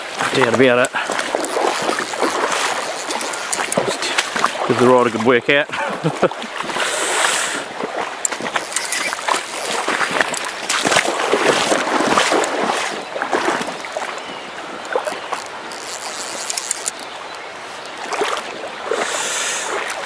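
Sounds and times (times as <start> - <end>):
stream running over stones: 0.0 - 20.0
water splashing: 0.0 - 20.0.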